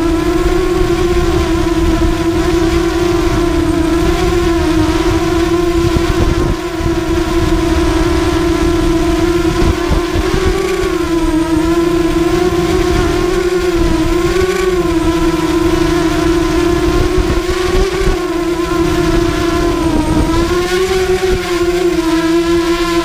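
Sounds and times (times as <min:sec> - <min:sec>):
quadcopter motors whining: 0:00.0 - 0:23.0
wind rumble on microphone: 0:00.0 - 0:23.0.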